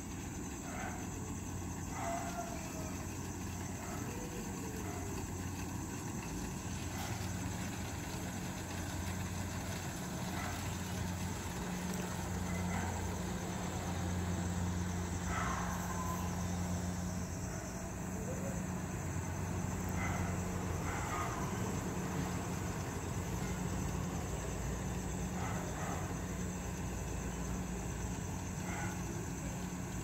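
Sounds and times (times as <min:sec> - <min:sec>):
combine harvester diesel engine hum: 0:00.0 - 0:30.0.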